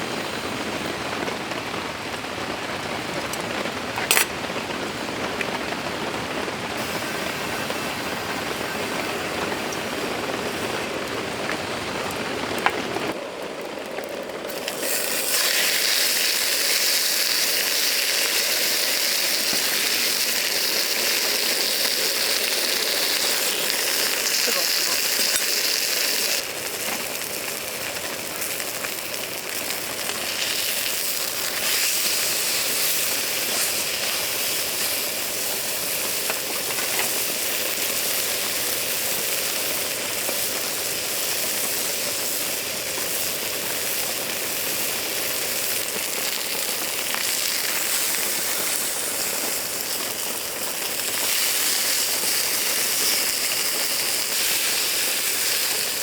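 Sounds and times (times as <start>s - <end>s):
rain falling: 0.0s - 14.8s, 16.0s - 56.0s.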